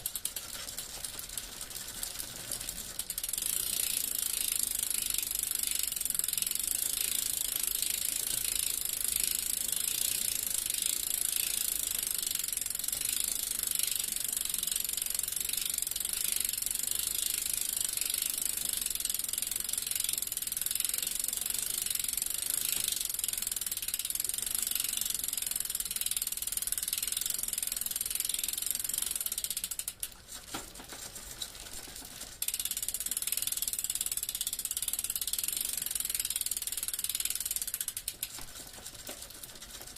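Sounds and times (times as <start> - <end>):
bicycle freewheel ticking: 0.0 - 30.6, 31.4 - 39.9.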